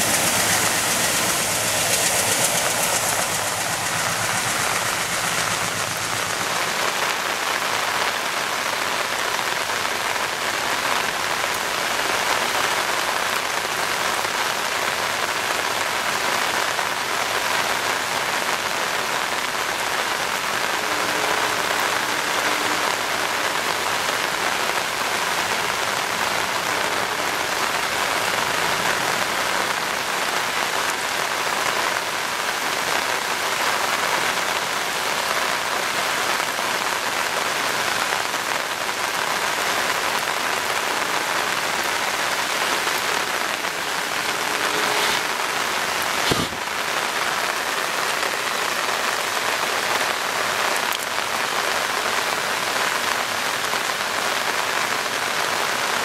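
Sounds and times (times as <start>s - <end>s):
heavy rain drumming on umbrella: 0.0s - 56.0s.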